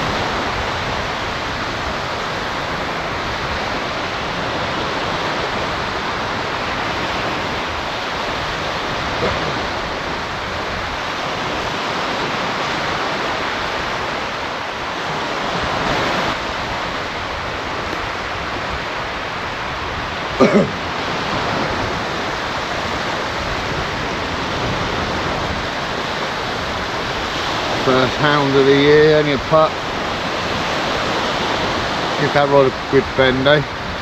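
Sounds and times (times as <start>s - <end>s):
surf breaking on beach: 0.0s - 34.0s.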